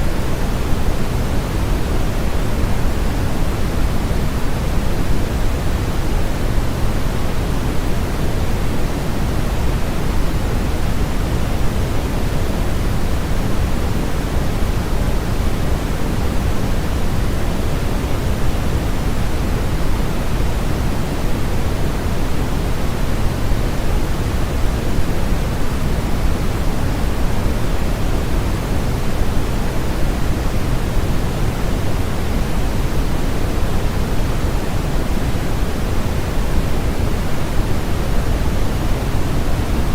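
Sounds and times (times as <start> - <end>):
deep steady noise hiss: 0.0 - 39.9.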